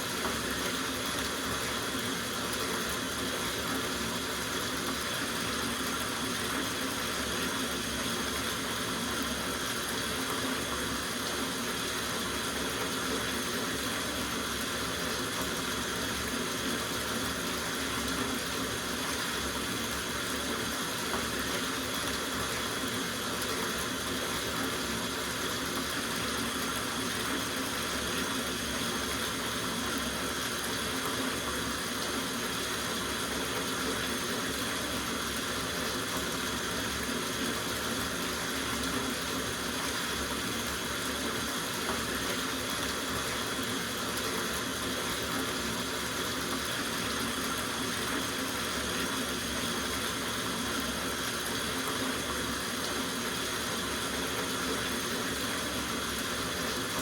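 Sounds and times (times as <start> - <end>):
faucet water running into bathtub: 0.0 - 57.0.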